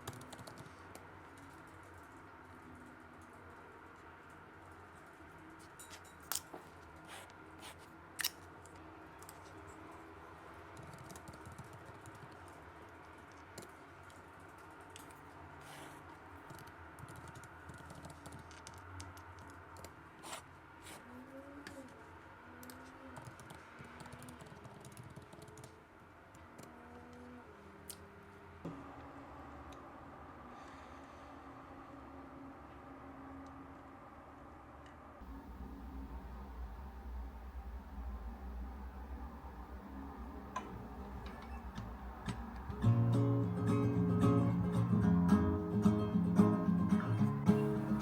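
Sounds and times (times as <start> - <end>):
faint room hum: 0.0 - 48.0.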